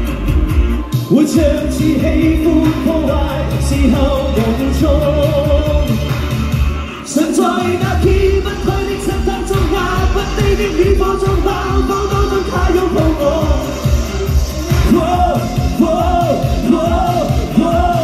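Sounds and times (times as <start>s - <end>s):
pop dance backing track: 0.0s - 18.0s
man singing into a microphone: 1.0s - 6.3s, 7.0s - 18.0s.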